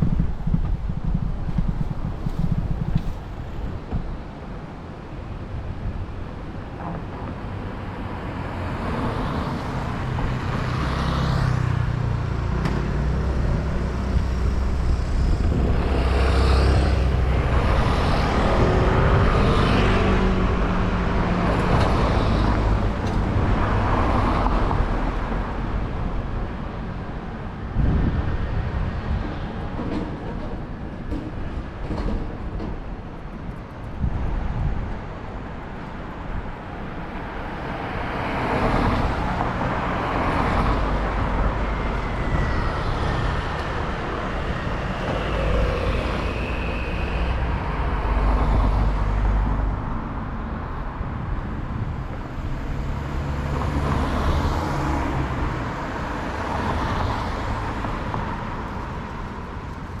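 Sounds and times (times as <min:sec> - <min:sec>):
vehicles passing: 0:00.0 - 1:00.0.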